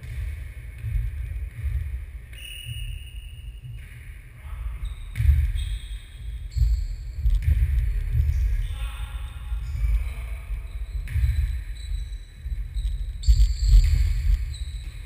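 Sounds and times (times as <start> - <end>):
ball bounces echoing in a hall: 0.0 - 15.0.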